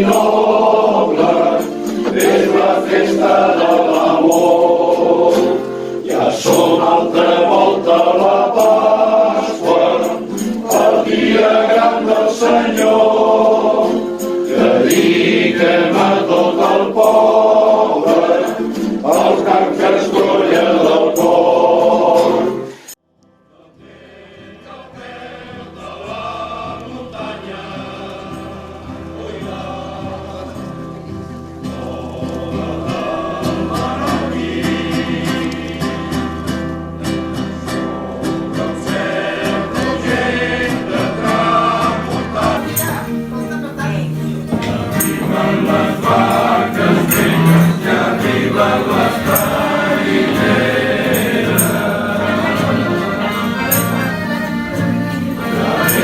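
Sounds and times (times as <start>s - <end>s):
men's choir singing: 0.0s - 22.9s, 23.6s - 36.4s, 37.6s - 43.2s, 44.1s - 56.0s
choral music: 0.0s - 56.0s.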